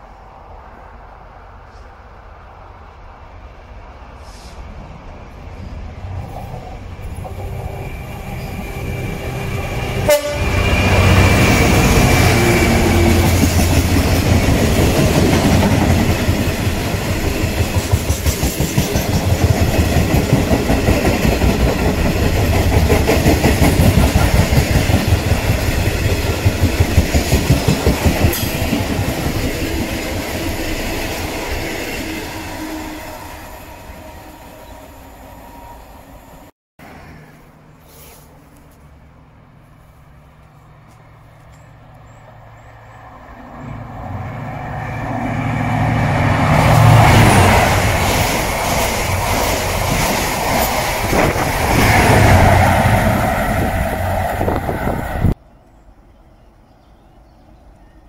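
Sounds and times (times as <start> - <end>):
diesel locomotive passing: 0.0 - 56.0.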